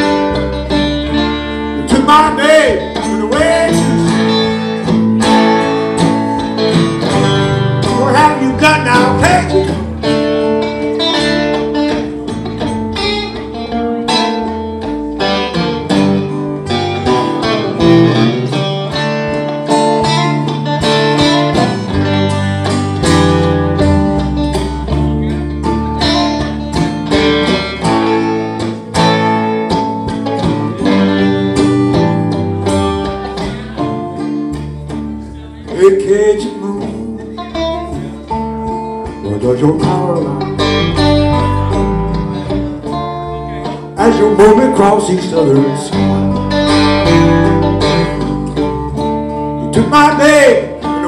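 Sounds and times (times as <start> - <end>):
bass line: 0.0 - 51.0
plucked guitar lines: 0.0 - 51.0.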